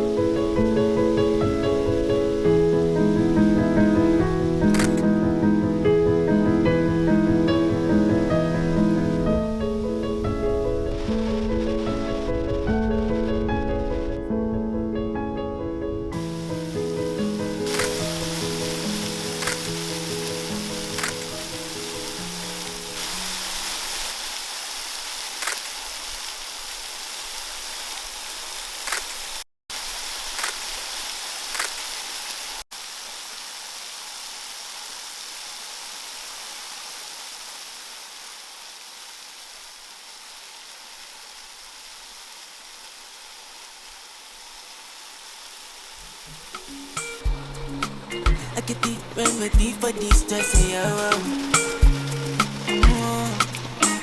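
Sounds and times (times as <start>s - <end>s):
waterfall rushing: 0.0s - 14.2s, 16.2s - 54.0s.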